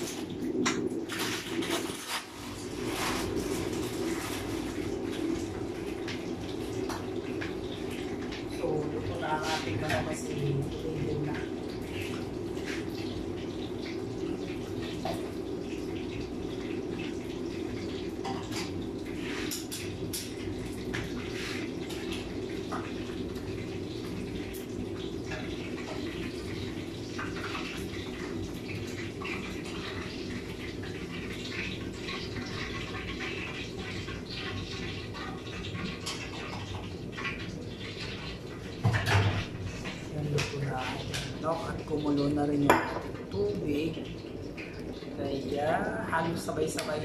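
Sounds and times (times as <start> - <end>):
food frying: 0.0 - 47.0
water boiling in pot: 0.0 - 47.0.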